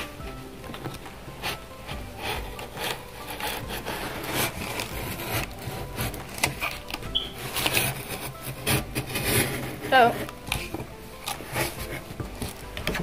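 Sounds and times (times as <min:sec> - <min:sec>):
box cutter slicing packing tape: 0:02.2 - 0:13.0.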